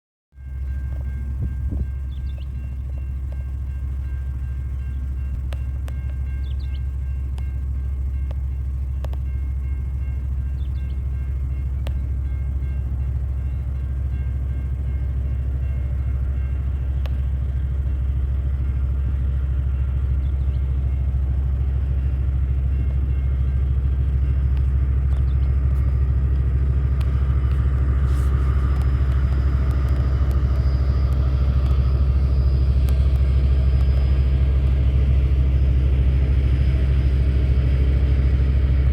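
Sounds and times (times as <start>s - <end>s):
freight train rumbling: 0.4s - 38.9s.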